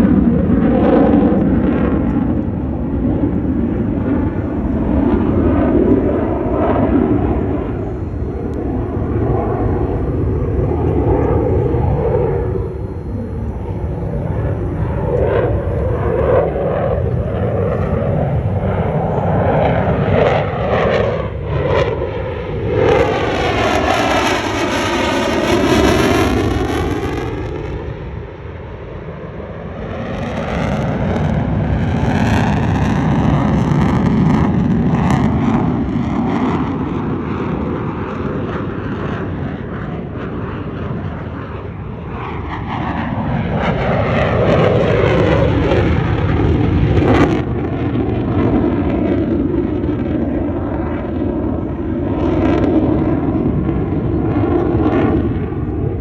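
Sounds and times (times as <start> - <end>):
fighter jet engine roar: 0.0 - 56.0.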